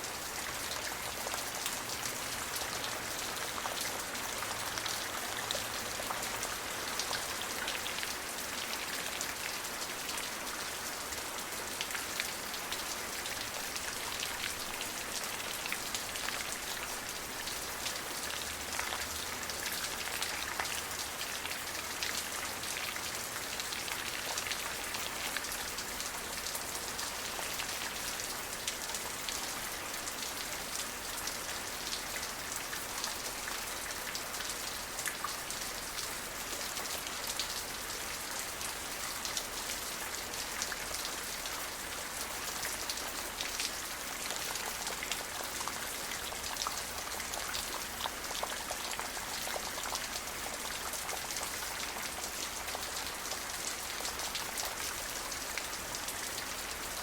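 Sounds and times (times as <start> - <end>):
steady rain falling: 0.0 - 57.0
raindrops ticking on a surface: 0.1 - 57.0.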